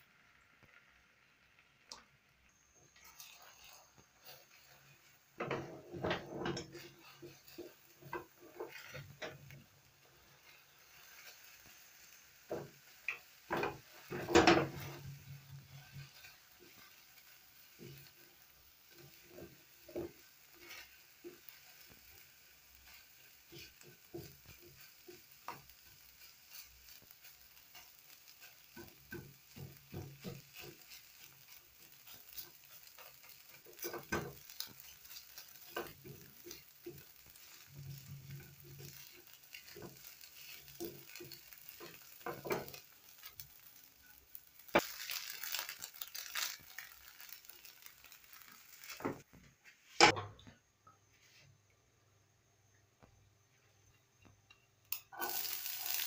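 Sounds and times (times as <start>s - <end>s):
eggs sizzling in a frying pan: 0.0s - 50.6s, 53.5s - 56.0s
spatula scraping a pan: 2.8s - 50.2s, 55.1s - 56.0s.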